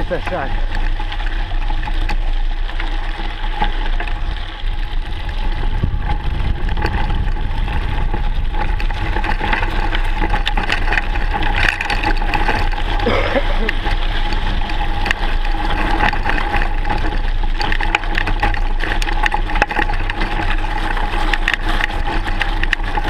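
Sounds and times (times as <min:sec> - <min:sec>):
bike rattling and clicking: 0:00.0 - 0:23.0
tyres crunching over gravel: 0:00.0 - 0:23.0
wind rumble on microphone: 0:00.0 - 0:23.0.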